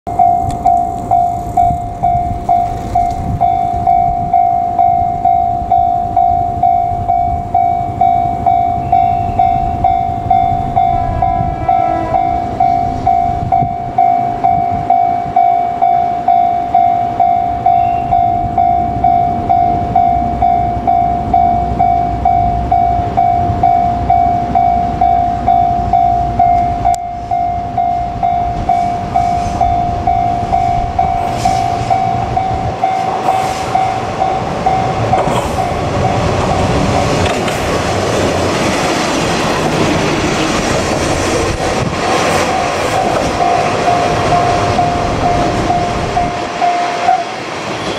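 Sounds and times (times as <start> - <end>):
level-crossing bell clanging: 0.1 - 37.7, 41.8 - 47.9
diesel railcar engine and wheels: 0.1 - 47.9.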